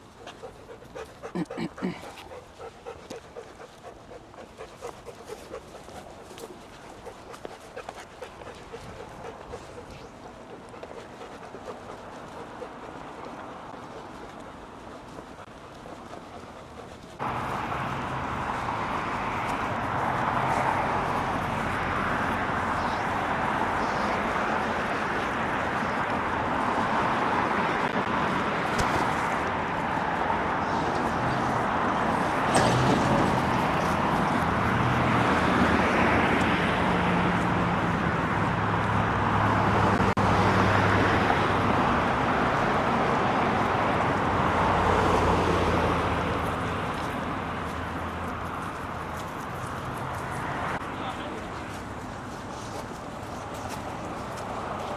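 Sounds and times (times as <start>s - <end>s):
road traffic from passing cars: 0.0s - 54.9s.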